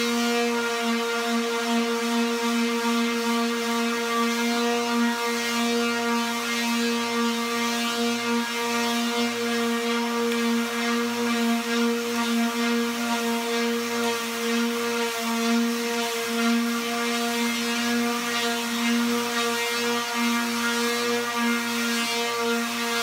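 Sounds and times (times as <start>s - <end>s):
electric sander buzz: 0.0s - 23.0s.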